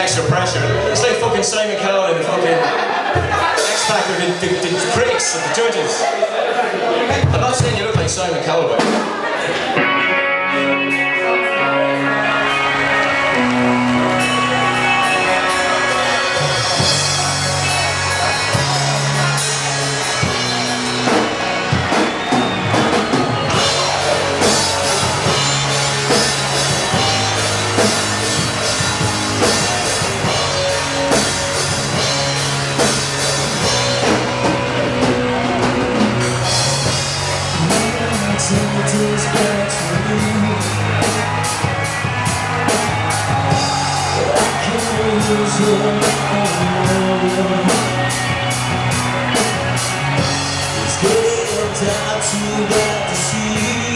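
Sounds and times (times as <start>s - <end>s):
drum kit: 3.2s - 4.6s, 7.2s - 11.1s, 12.0s - 53.9s
bass guitar: 7.1s - 53.9s
electric guitar: 8.8s - 53.9s.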